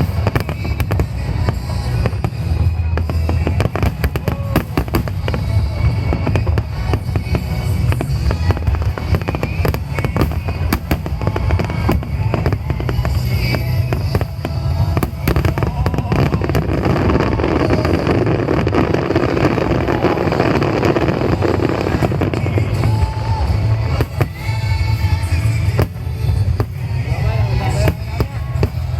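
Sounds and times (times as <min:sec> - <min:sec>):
deep rumble: 0:00.0 - 0:28.9
fireworks bangs and crackles: 0:00.0 - 0:28.9.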